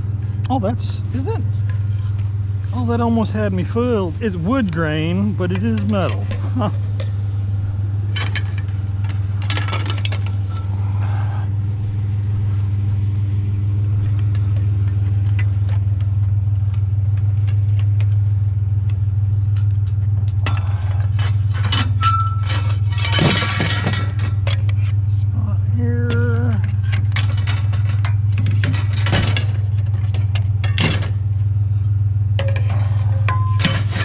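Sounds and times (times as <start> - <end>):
metal rods clanking and rattling: 0.0 - 7.2, 8.0 - 10.7, 14.0 - 25.1, 26.0 - 31.4, 32.4 - 34.0
truck engine idling: 0.0 - 34.0.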